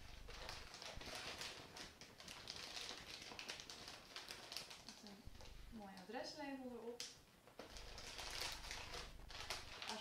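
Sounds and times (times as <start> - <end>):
plastic envelope crinkling: 0.0 - 10.0.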